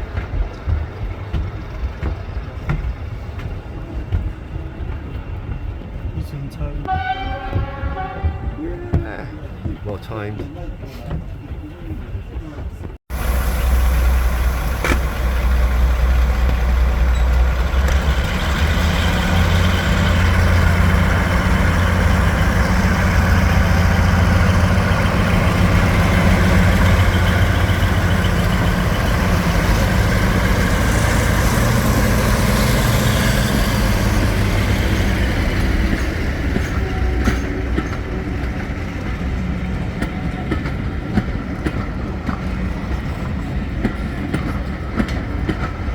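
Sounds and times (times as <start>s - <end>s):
diesel train engine running: 0.0s - 45.9s.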